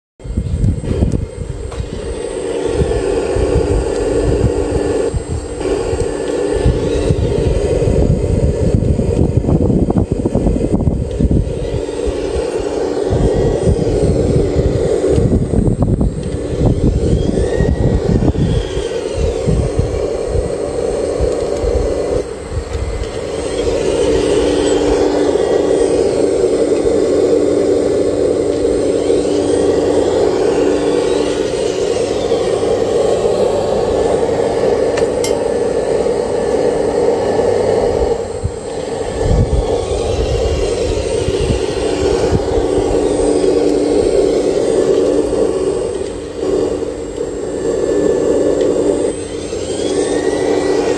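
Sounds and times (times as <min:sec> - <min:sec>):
model excavator motor whine: 0:00.2 - 0:50.9.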